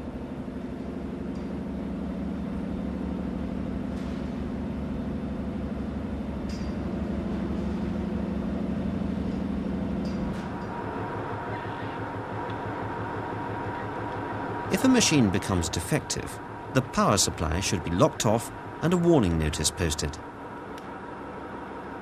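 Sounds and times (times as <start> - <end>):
engine room machinery hum: 0.0 - 22.0.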